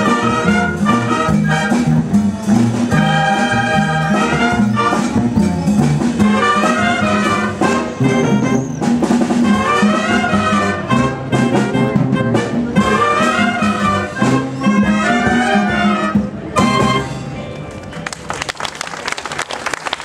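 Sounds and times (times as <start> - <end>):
latin percussion: 0.0 - 17.4
wind band playing latin music: 0.0 - 17.8.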